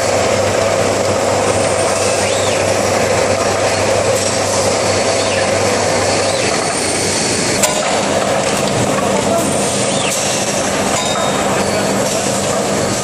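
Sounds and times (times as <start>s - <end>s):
industrial machine din: 0.0s - 13.0s.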